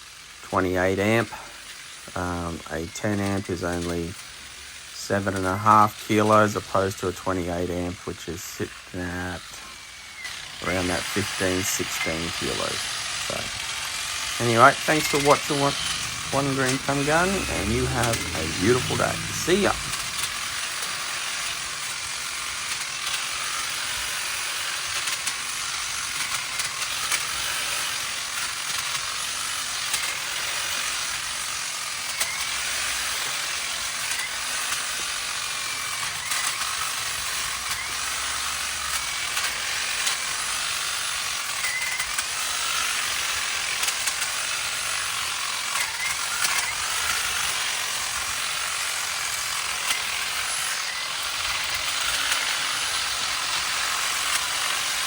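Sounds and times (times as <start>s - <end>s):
hedge trimmer blades clattering: 6.2s - 55.0s.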